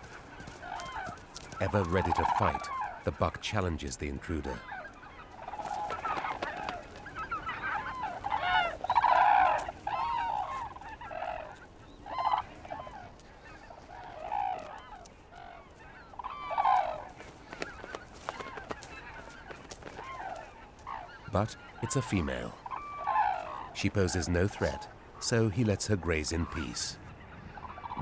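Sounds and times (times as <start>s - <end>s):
birds honking: 0.0s - 28.0s.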